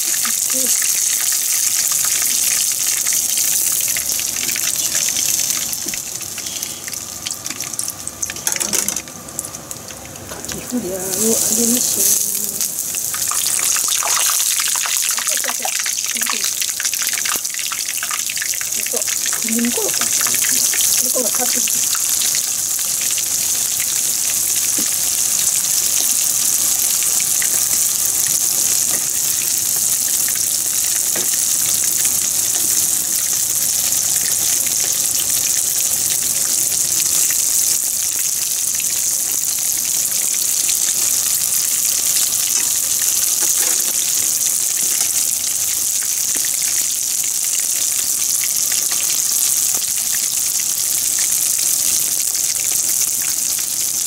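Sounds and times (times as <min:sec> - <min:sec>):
food deep-frying in hot oil: 0:00.0 - 0:54.0.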